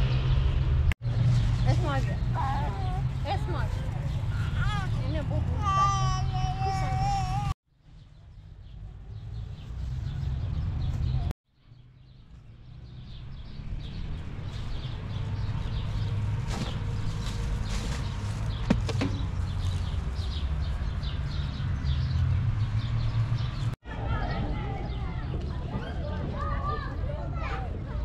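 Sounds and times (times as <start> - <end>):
small birds chirping: 1.0 - 28.0.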